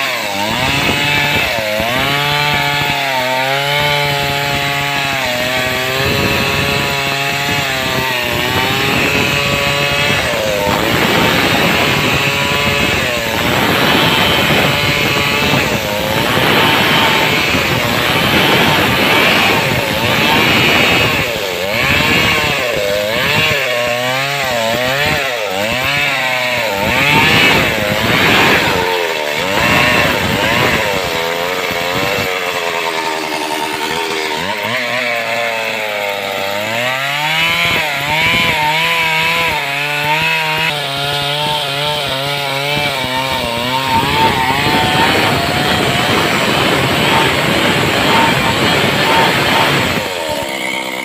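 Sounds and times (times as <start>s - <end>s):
chainsaw cutting log: 0.0s - 51.0s.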